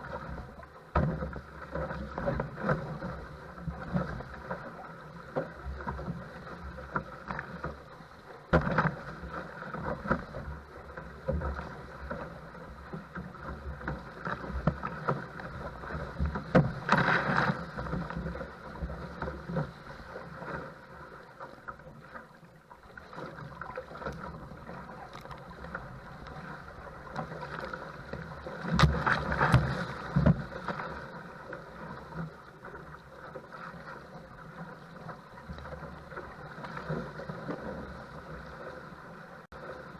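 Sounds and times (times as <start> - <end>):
water splashing against boat: 0.0 - 39.9.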